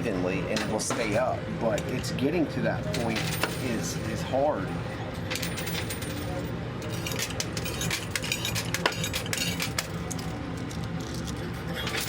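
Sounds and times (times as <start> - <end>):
low machine hum: 0.0 - 12.0
coins clinking in a coin pusher: 0.5 - 1.4, 2.9 - 12.0.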